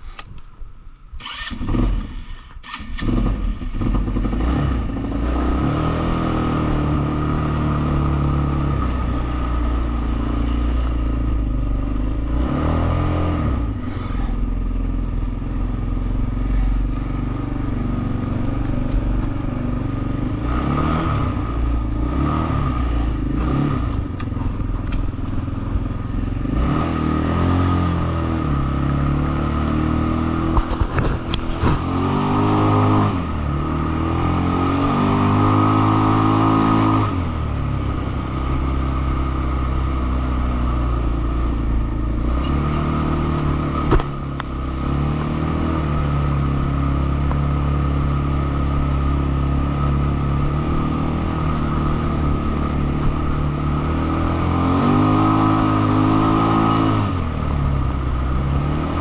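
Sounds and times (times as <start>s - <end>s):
quad bike engine revving: 1.2s - 59.0s.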